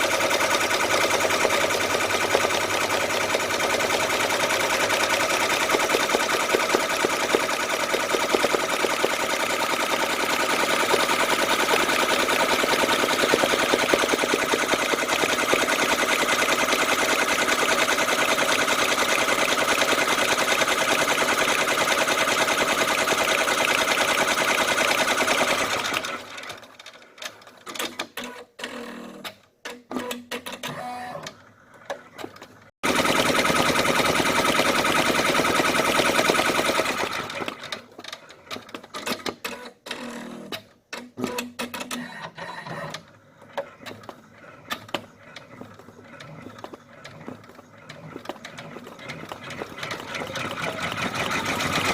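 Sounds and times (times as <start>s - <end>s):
embroidery machine stitching: 0.0s - 51.9s.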